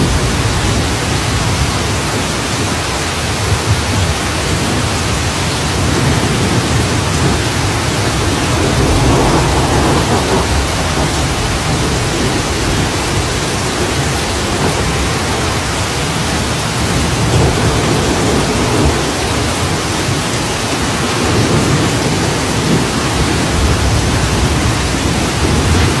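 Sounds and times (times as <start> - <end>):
loud rain falling: 0.0 - 26.0
low rumbles: 0.0 - 26.0.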